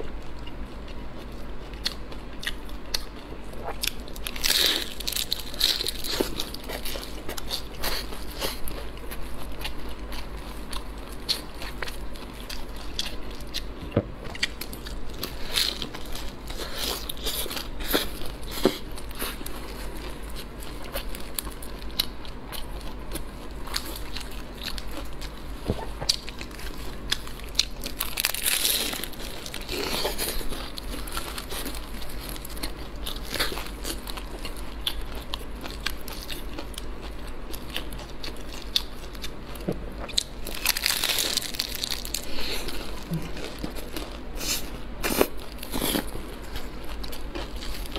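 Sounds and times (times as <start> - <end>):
crunchy pastry chewing: 0.0 - 47.9.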